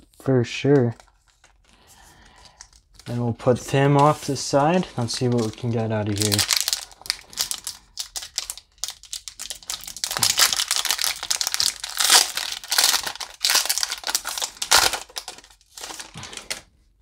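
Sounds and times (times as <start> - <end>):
plastic wrapper tearing and crinkling: 2.4 - 16.7.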